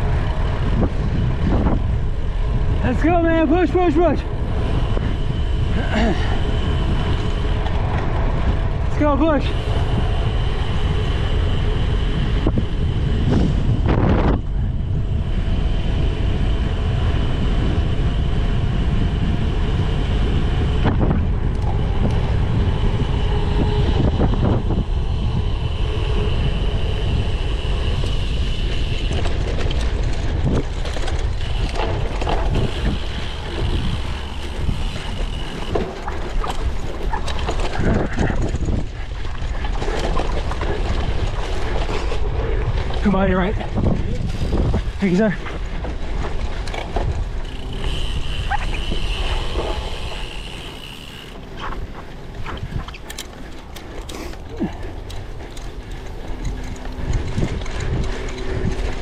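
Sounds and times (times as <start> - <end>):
bike knocking and rattling: 0.0 - 59.0
wind rushing over microphone: 0.0 - 59.0.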